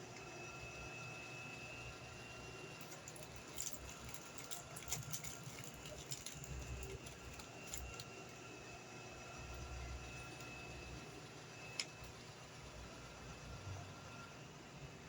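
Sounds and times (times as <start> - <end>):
room hum with high whine: 0.0 - 15.0.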